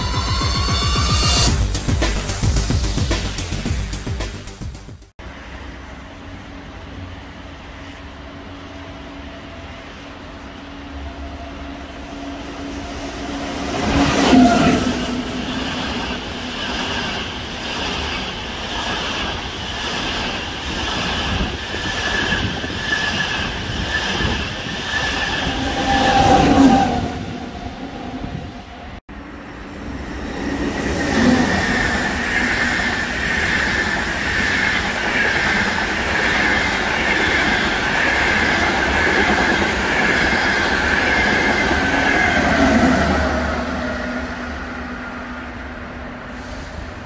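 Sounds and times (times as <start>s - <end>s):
high-speed train rushing past: 5.2s - 47.0s.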